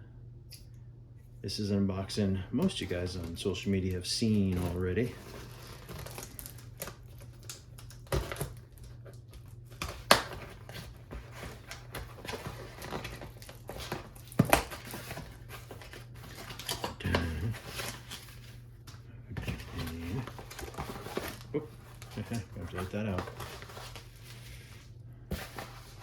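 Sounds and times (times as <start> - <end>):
cardboard packaging rustling: 2.6 - 26.0.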